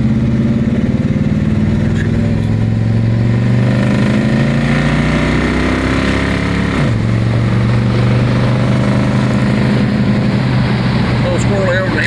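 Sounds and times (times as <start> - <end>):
car engine under full throttle: 0.0 - 12.0.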